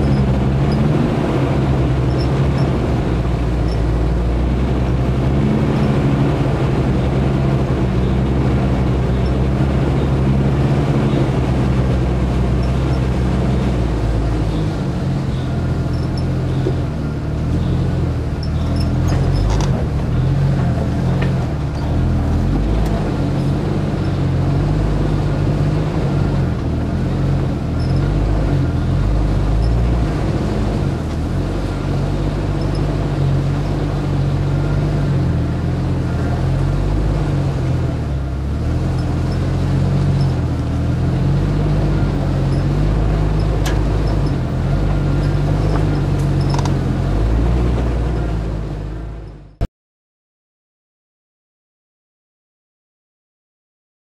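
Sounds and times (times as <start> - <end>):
off-road vehicle engine at low revs: 0.0 - 49.7.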